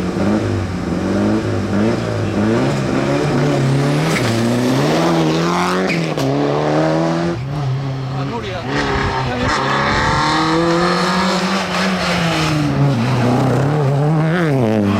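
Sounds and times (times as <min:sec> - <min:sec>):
rally car engine revving: 0:00.0 - 0:14.9.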